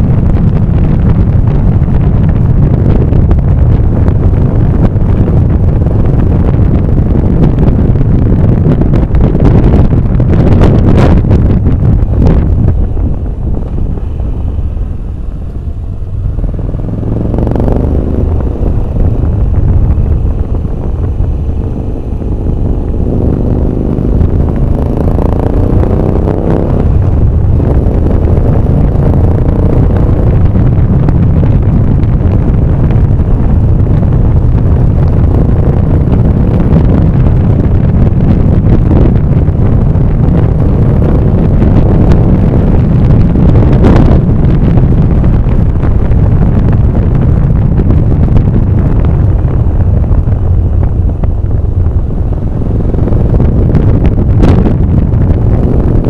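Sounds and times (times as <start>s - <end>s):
vehicle engine: 0.0s - 56.0s
wind buffeting microphone: 0.0s - 56.0s.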